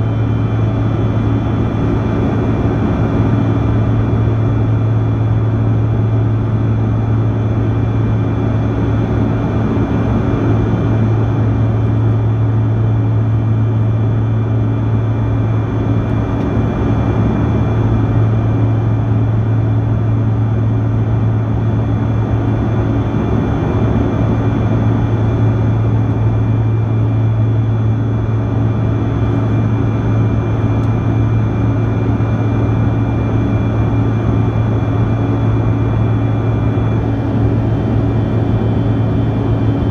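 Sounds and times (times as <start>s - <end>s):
high engine whine: 0.0s - 39.9s
jet cabin engine noise: 0.0s - 39.9s.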